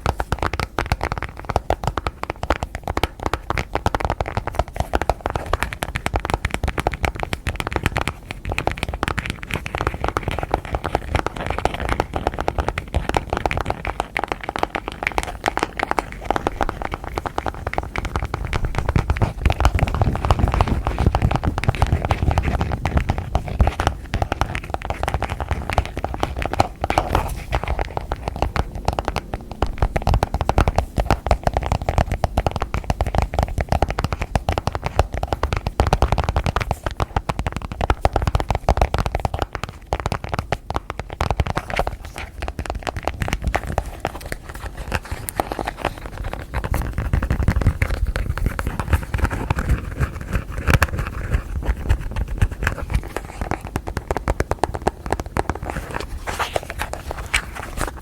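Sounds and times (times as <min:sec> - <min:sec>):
fingernails tapping and scratching: 0:00.0 - 0:58.0.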